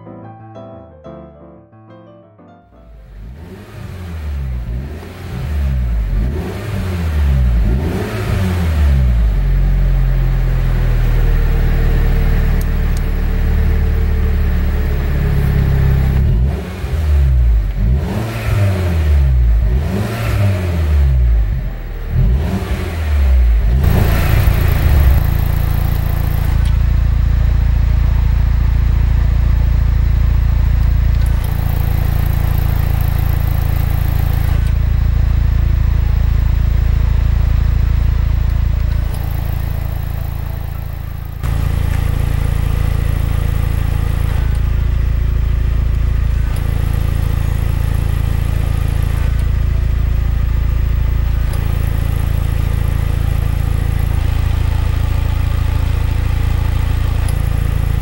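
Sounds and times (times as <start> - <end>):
car engine idling: 2.9 - 58.0
car engine revving: 3.0 - 58.0.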